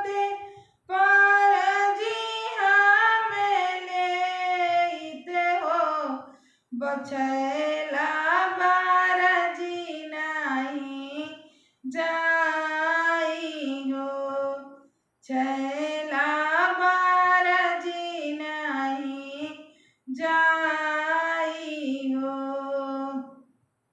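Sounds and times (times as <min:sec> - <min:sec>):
woman singing unaccompanied: 0:00.0 - 0:23.4.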